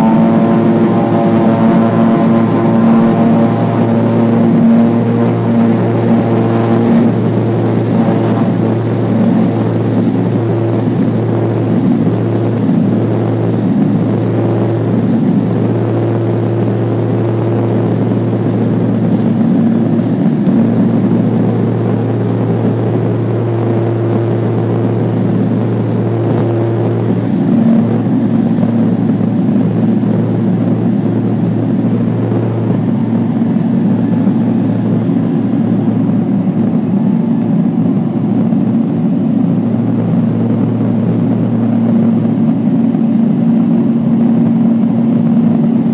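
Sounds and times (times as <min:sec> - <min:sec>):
turboprop propeller drone: 0:00.0 - 0:45.9.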